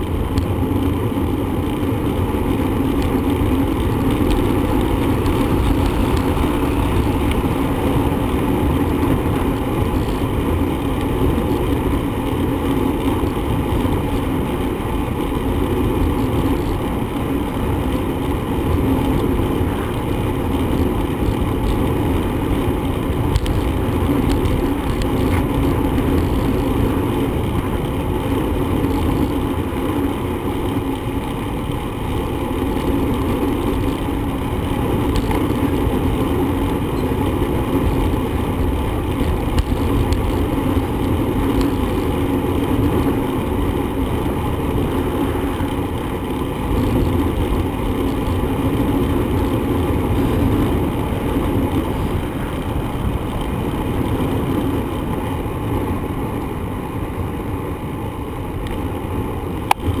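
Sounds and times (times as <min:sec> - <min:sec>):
bicycle road noise: 0:00.0 - 1:00.0
wind rush on microphone: 0:00.0 - 1:00.0.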